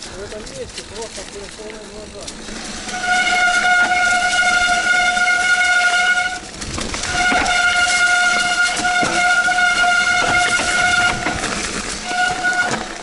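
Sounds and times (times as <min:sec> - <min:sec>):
bike clicks and rattles: 0:00.0 - 0:13.0.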